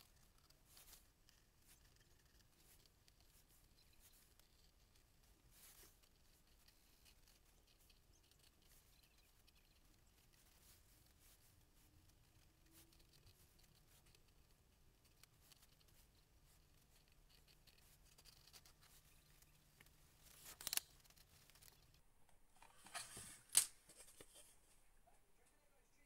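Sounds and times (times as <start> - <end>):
pencil scratching on paper: 0.0 - 21.9
drawing paper rustling: 0.0 - 24.8.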